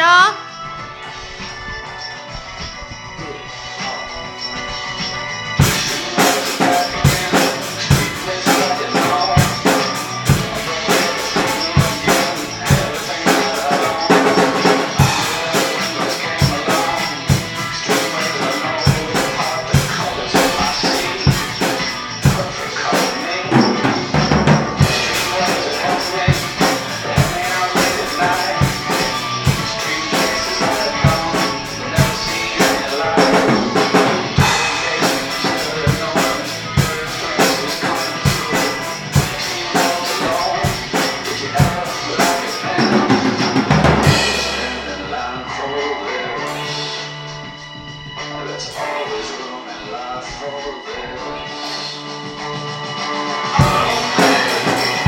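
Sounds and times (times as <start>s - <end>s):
backing music: 0.0s - 55.0s
drum kit funk groove: 0.9s - 47.0s, 52.5s - 55.0s.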